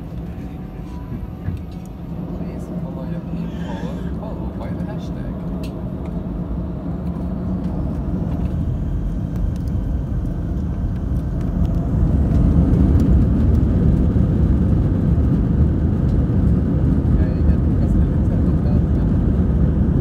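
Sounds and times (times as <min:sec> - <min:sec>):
jet engines rumbling in cabin: 0:00.0 - 0:20.0.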